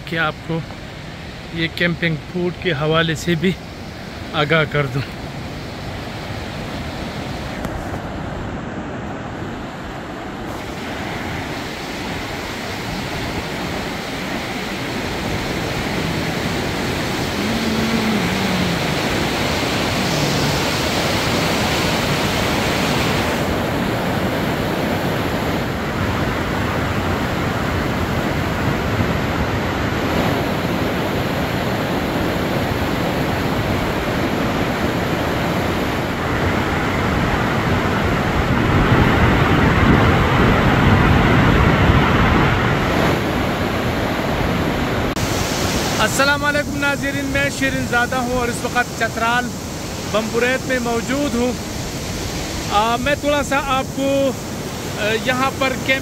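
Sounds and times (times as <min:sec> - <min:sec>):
river rushing over boulders: 0:00.0 - 0:56.0.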